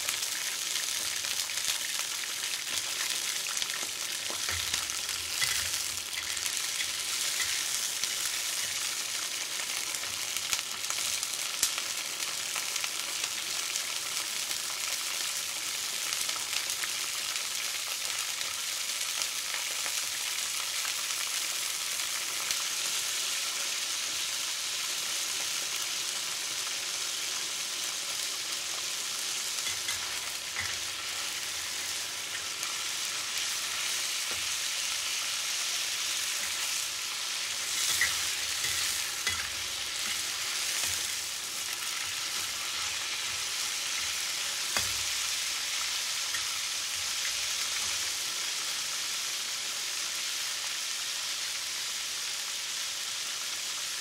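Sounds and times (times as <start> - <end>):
deep-frying sizzle in oil: 0.0 - 54.0.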